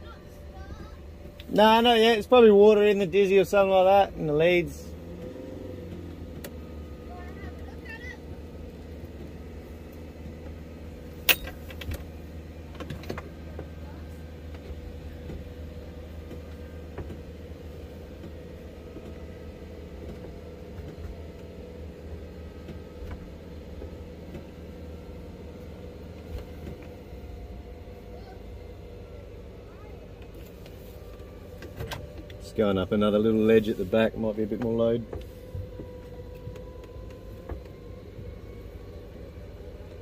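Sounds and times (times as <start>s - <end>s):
car engine running low: 0.0s - 40.0s.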